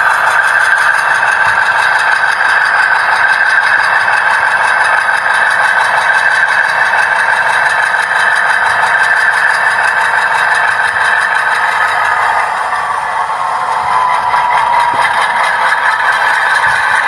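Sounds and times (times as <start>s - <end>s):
model locomotive running on track: 0.0s - 17.0s.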